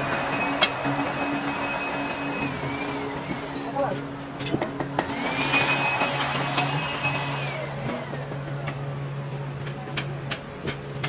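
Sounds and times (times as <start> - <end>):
power tool motor whining: 0.0 - 9.2.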